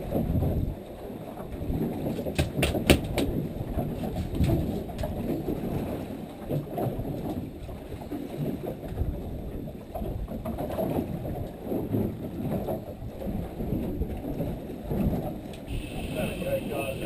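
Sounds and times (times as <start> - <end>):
boat engine rumble: 0.0 - 17.0.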